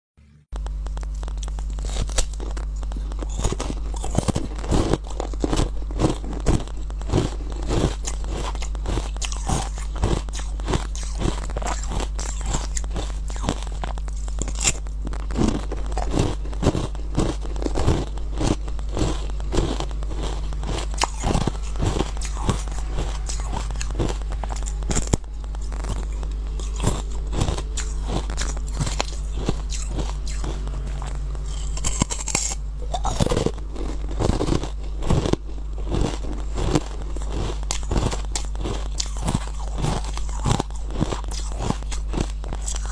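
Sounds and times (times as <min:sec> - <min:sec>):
steady low hum: 0:00.2 - 0:42.9
crunching and chewing ice: 0:00.6 - 0:42.9.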